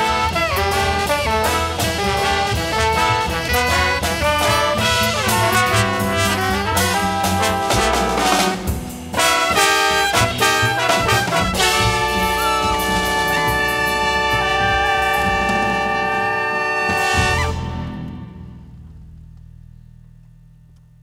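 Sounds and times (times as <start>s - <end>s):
jazz brass ensemble: 0.0s - 18.7s
drum and cymbal hits: 0.0s - 21.0s.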